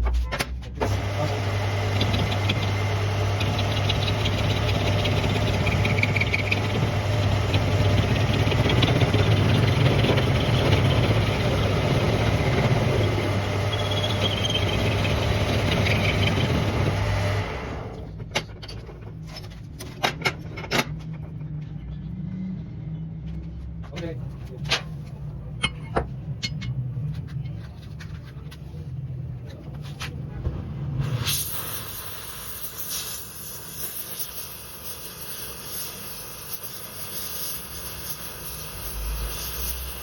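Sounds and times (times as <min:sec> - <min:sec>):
workshop machine humming: 0:00.8 - 0:19.2, 0:24.1 - 0:40.0.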